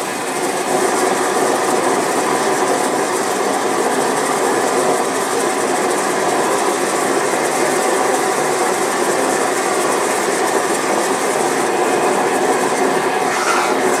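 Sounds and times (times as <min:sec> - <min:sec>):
furnace burner roaring: 0:00.0 - 0:14.0.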